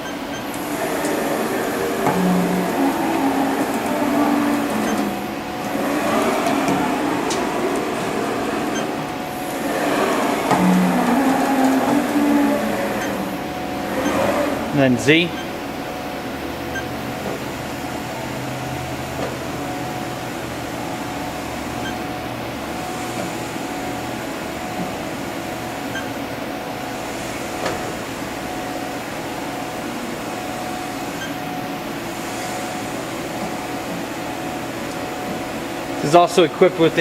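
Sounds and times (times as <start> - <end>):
machine mechanical hum and whir: 0.0 - 37.0.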